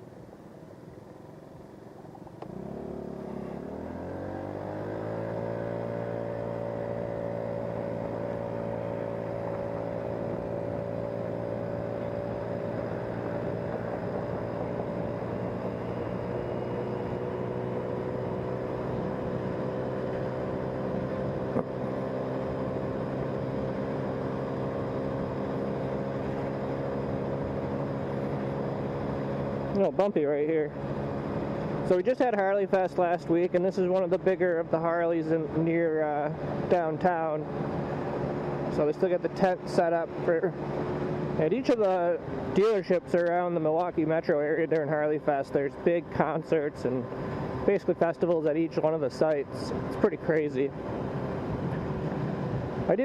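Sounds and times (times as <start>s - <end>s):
vehicle engine accelerating: 1.1s - 53.0s.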